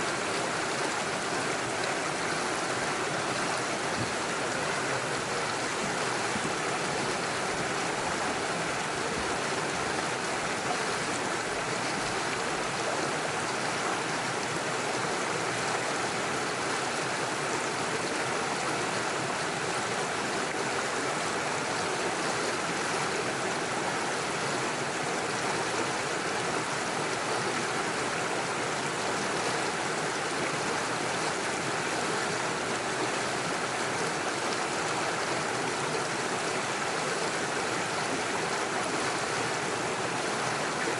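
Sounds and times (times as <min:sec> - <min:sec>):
water rushing over stones: 0:00.0 - 0:40.9.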